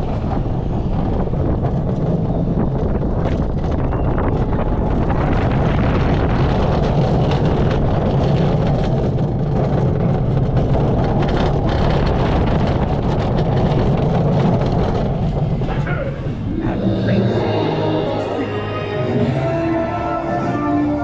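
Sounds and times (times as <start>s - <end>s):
roller coaster rumbling on track: 0.0s - 21.0s
wind on microphone: 0.0s - 21.0s.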